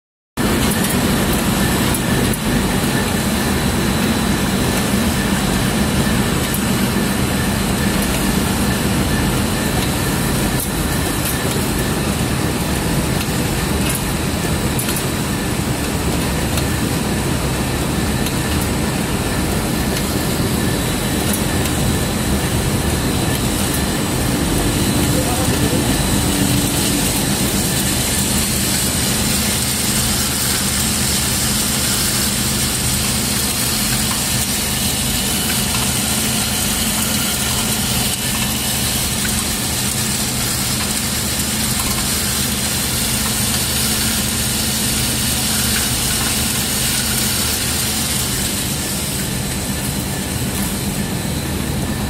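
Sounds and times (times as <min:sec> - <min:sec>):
grinding machine running: 0:00.4 - 0:52.0.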